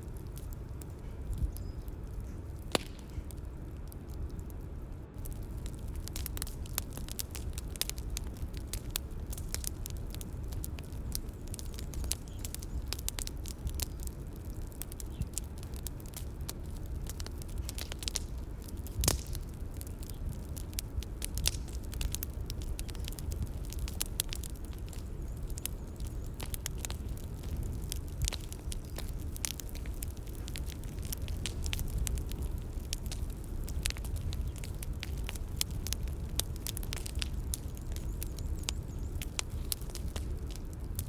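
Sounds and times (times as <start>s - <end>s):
bonfire crackling: 0.0s - 41.0s
low steady rumble: 0.0s - 41.0s.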